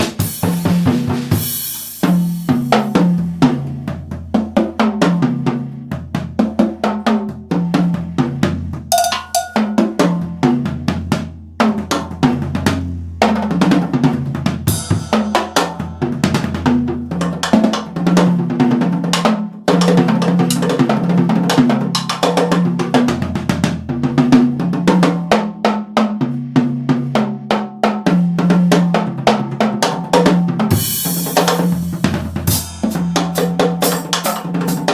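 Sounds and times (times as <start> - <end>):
drum kit playing fast groove: 0.0 - 25.4, 28.2 - 34.9.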